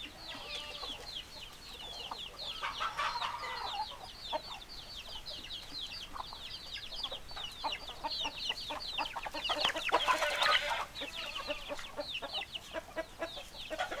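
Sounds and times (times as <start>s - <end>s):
chickens clucking: 0.0s - 14.0s
chicks peeping: 0.0s - 14.0s.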